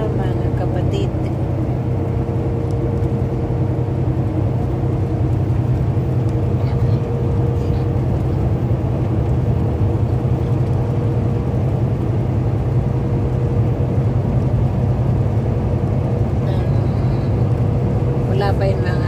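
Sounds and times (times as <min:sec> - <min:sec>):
truck engine and tyres droning: 0:00.0 - 0:19.0.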